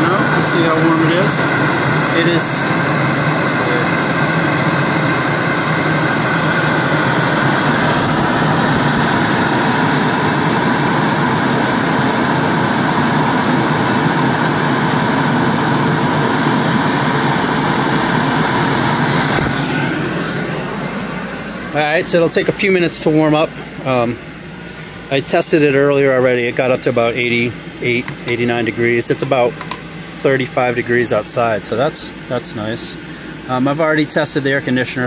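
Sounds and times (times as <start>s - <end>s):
blower fan running: 0.0s - 35.0s.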